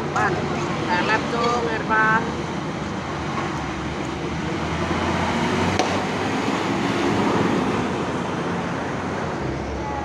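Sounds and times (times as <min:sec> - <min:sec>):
bus and traffic rumble: 0:00.0 - 0:10.0.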